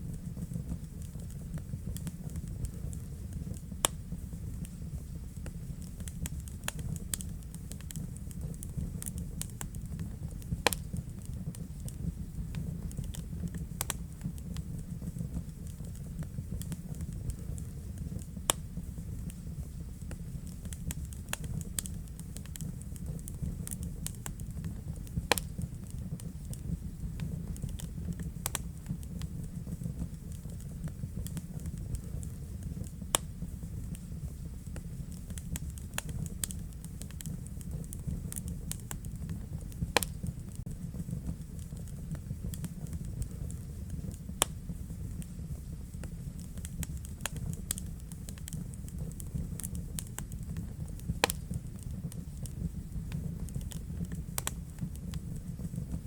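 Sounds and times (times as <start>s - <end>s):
fire crackling and popping: 0.0s - 56.0s
fire rumbling: 0.0s - 56.0s.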